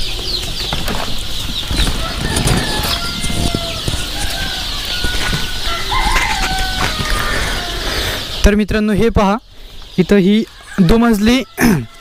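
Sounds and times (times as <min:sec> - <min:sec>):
chicks peeping: 0:00.0 - 0:12.0
held chicken calls: 0:01.2 - 0:08.5, 0:09.2 - 0:12.0.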